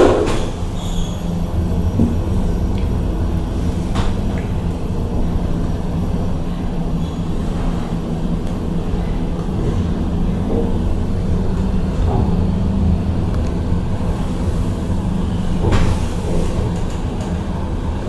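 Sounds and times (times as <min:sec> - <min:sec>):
elevator rumbling in shaft: 0:00.0 - 0:18.0.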